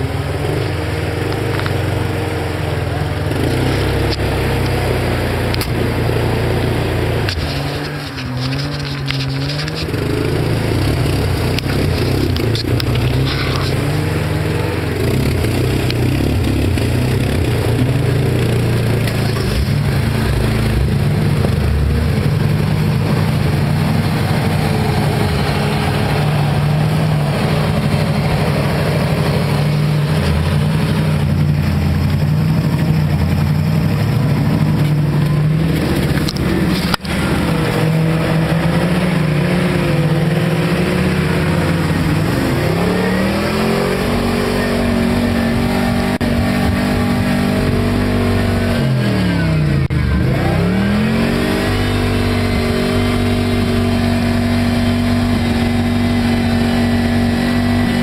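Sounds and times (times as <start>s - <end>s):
engine running under load: 0.0s - 58.0s.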